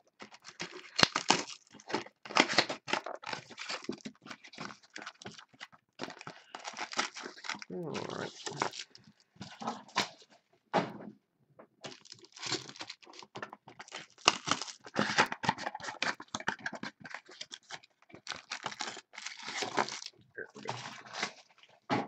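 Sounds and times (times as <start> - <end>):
packaging being torn and crinkled: 0.2 - 10.4, 11.8 - 21.8.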